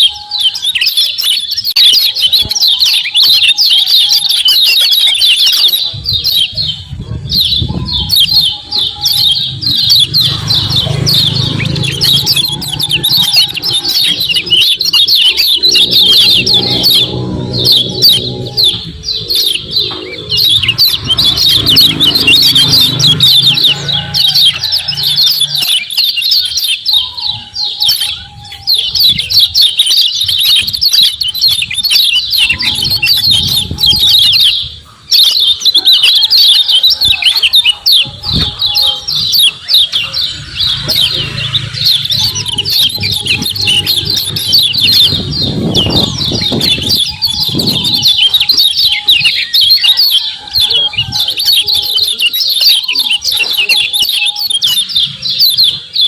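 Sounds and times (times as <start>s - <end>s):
bird chirping rapidly: 0.0s - 56.0s.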